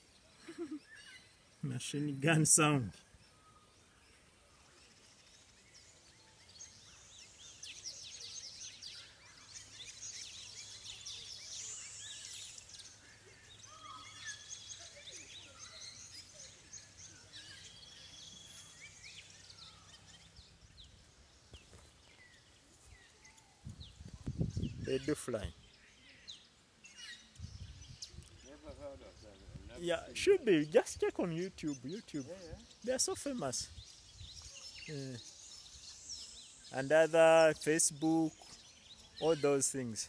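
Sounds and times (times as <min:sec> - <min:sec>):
small birds chirping and whistling: 0:00.0 - 0:40.0.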